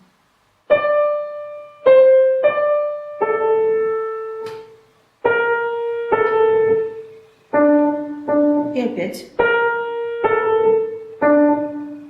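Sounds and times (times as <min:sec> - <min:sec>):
slow calm piano melody: 0:00.6 - 0:12.0.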